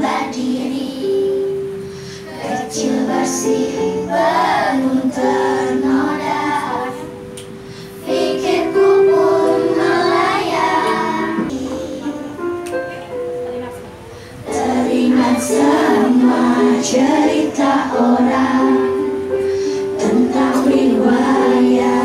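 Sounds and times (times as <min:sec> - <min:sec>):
children singing in unison: 0:00.0 - 0:07.3, 0:07.9 - 0:12.5, 0:14.4 - 0:22.0.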